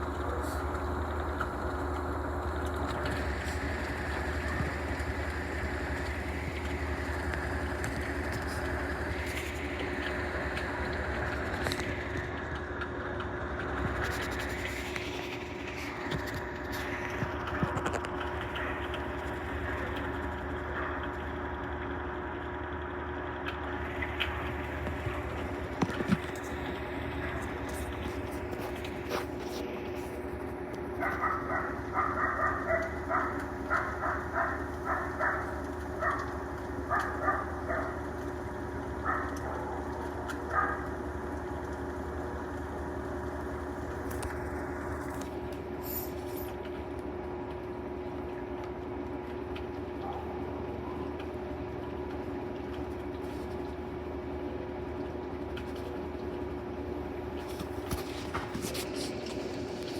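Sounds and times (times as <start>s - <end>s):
washing machine spin hum: 0.0s - 59.9s.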